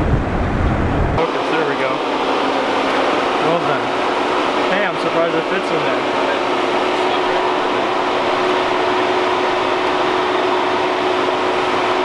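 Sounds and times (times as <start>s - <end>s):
car engine idling: 1.8s - 12.0s.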